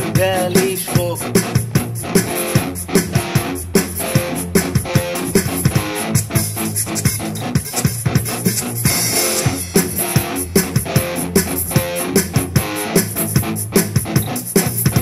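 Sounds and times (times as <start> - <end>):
bass: 0.0 - 15.0
drum kit beat: 0.0 - 15.0
guitar: 0.0 - 15.0.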